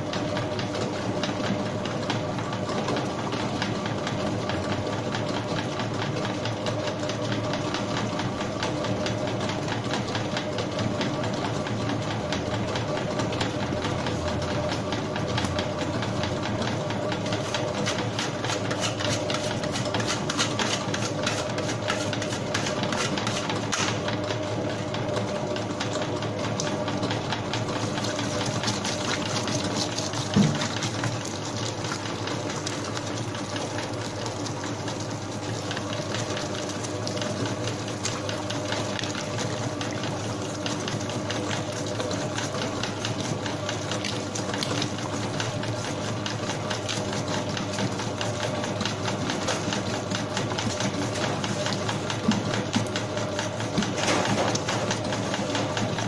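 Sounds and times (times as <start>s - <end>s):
dough mixer hum and clatter: 0.0s - 56.0s.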